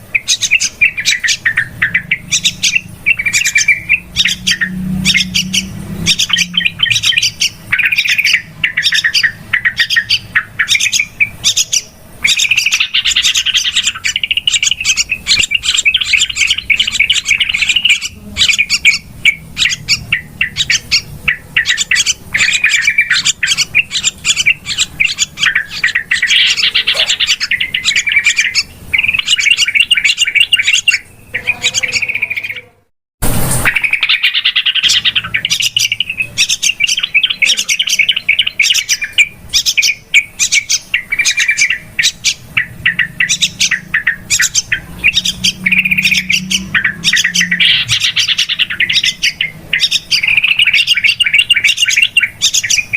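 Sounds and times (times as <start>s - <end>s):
bulbuls chattering: 0.0s - 32.9s, 33.6s - 52.9s.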